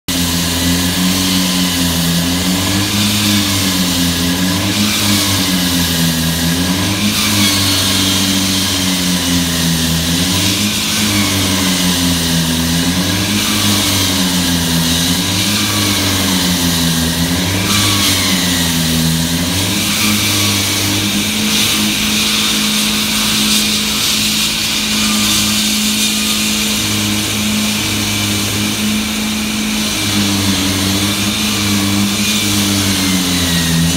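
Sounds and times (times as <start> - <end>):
concrete floor saw cutting: 0.0 - 33.9.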